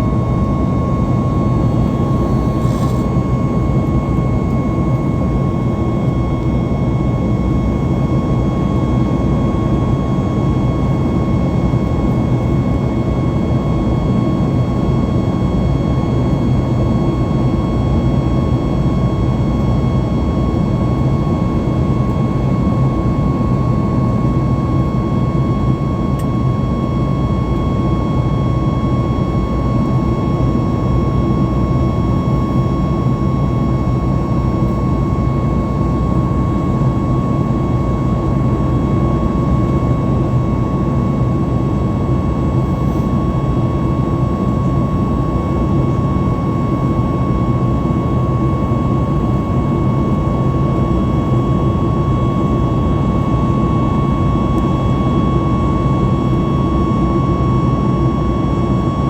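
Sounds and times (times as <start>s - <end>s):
high engine whine: 0.0s - 59.0s
jet engine and airflow rumble: 0.0s - 59.0s.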